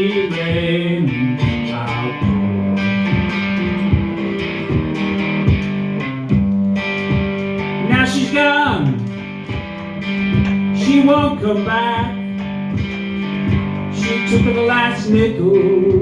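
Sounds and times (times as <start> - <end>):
amplified guitar playing blues: 0.0 - 16.0.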